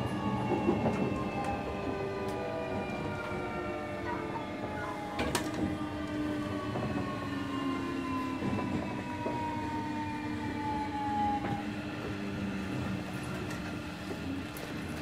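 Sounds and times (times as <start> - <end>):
train car rumbling on track: 0.0 - 15.0.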